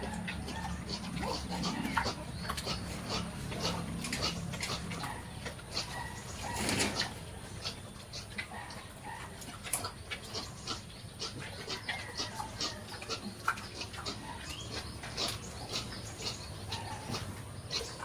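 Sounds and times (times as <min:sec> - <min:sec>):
pigs grunting: 0:00.0 - 0:18.0.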